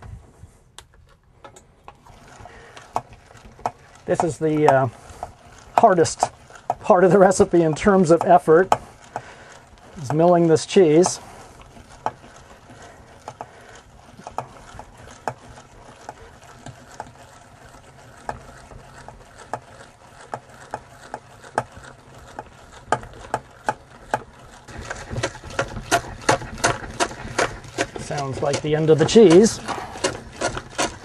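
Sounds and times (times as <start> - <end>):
cheese mill crank clicking: 0.8 - 31.0.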